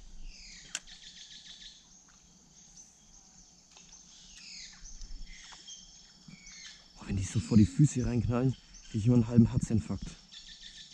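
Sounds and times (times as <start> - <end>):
high insect drone: 0.0 - 10.9.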